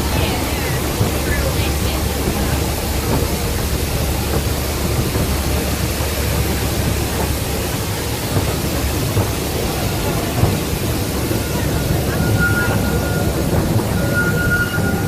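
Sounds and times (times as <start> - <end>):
miniature train running on track: 0.0 - 15.0.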